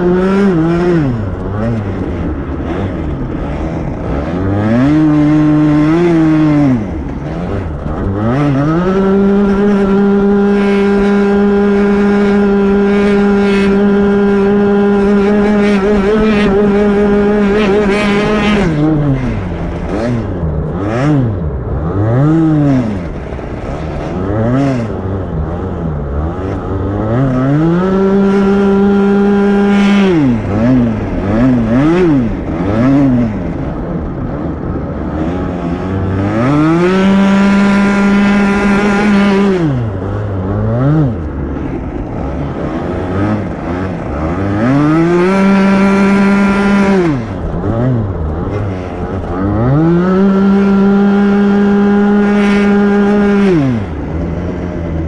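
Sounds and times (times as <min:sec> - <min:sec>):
two-stroke kart engine revving: 0:00.0 - 0:55.0.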